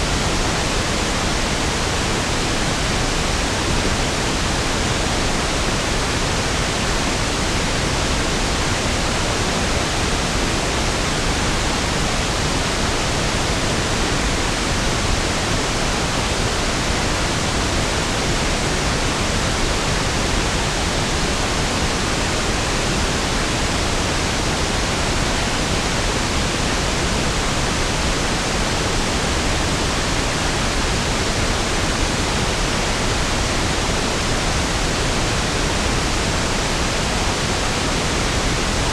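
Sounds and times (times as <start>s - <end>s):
pink noise hiss: 0.0s - 38.9s.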